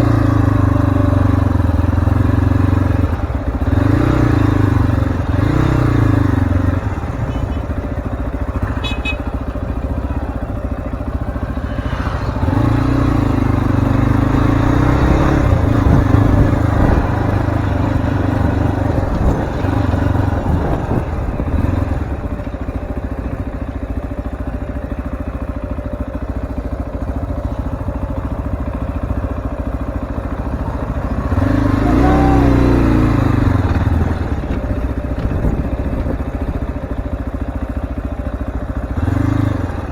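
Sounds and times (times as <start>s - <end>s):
motorcycle engine off-road: 0.0s - 39.9s.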